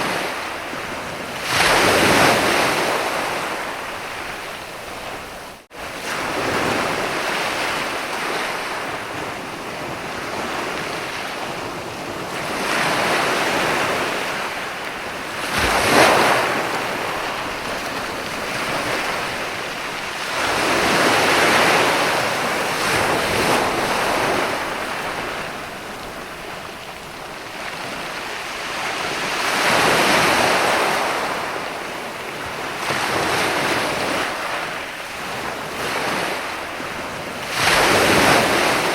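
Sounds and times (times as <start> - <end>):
sea waves breaking on beach: 0.0 - 38.9.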